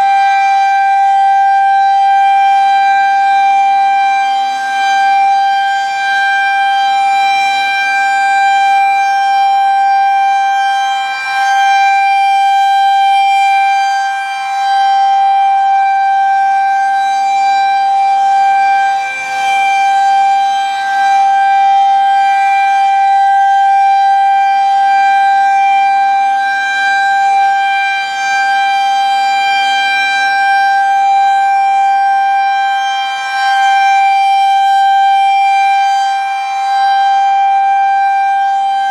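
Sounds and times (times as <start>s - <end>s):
outdoor warning siren steady tone: 0.0s - 38.9s.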